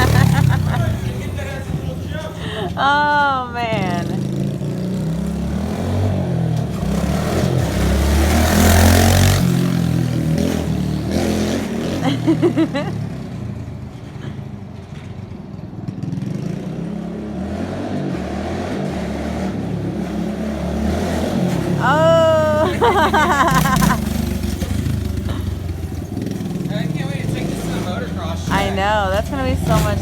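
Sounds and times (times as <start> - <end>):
small motorcycle engine revving: 0.0 - 1.8, 3.8 - 13.0, 16.0 - 30.0.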